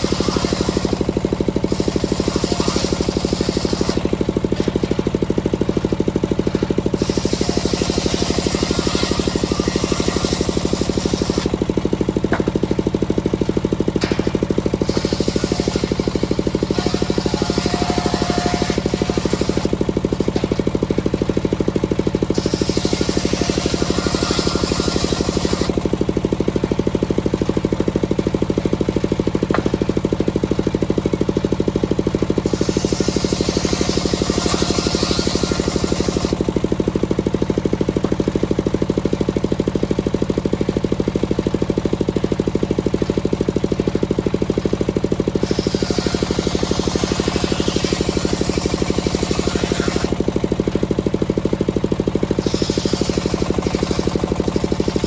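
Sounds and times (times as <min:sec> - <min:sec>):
circular saw running: 0:00.0 - 0:55.0
saw cutting through wood: 0:00.0 - 0:55.0.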